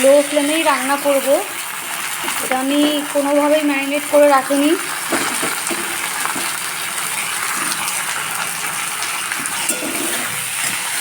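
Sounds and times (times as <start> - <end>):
meat frying with onions: 0.0 - 11.0.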